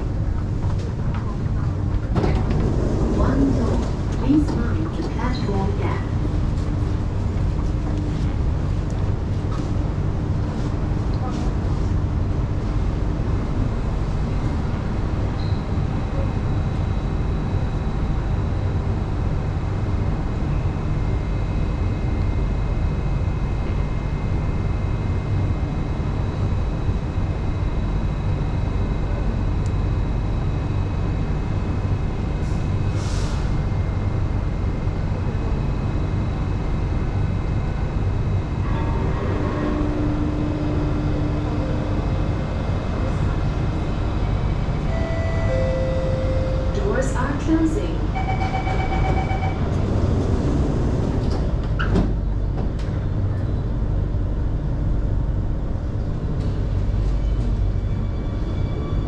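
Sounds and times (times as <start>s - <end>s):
train hum and rumble: 0.0s - 59.0s.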